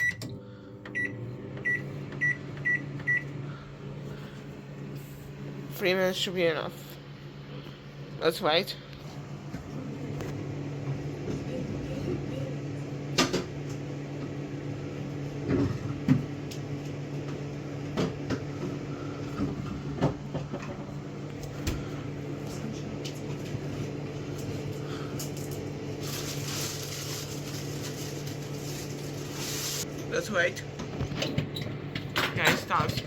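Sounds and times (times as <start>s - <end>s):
microwave oven humming: 0.0s - 33.0s.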